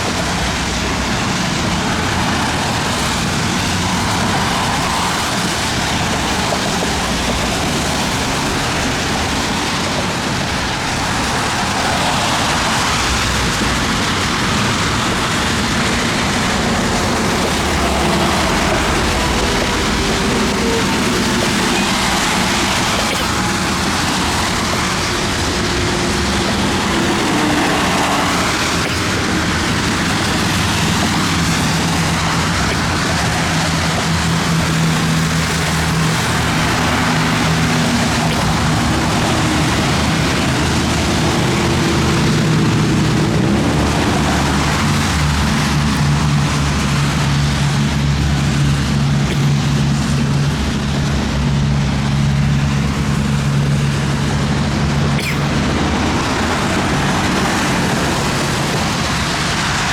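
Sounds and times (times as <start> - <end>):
constant rushing noise: 0.0 - 59.9
low engine hum: 0.0 - 59.9.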